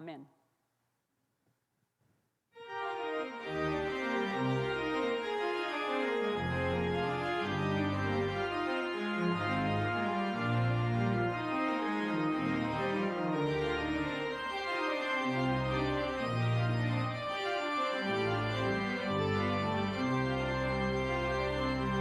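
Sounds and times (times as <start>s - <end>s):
organ chords: 2.6s - 22.0s.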